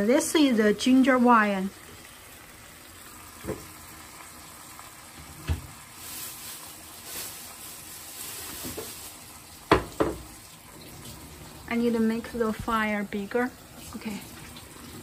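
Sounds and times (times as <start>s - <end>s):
sizzling in a pot: 0.0s - 15.0s.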